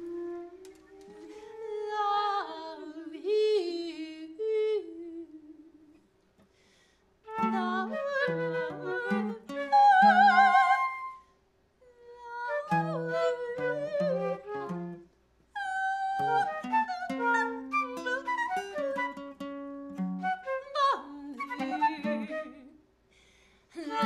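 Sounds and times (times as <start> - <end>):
woman singing wordless notes: 0.0 - 6.0, 7.3 - 11.2, 11.9 - 15.0, 15.6 - 19.4, 20.2 - 22.8, 23.7 - 24.0.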